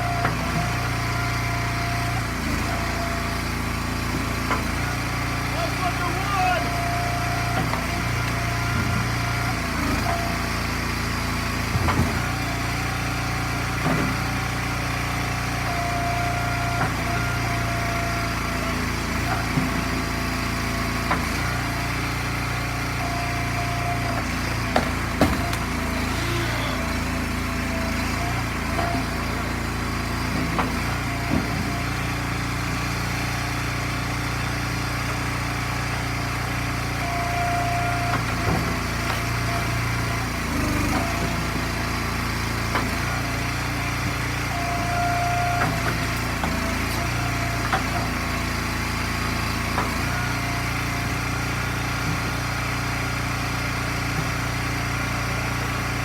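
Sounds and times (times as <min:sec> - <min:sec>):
log splitter engine running: 0:00.0 - 0:56.0.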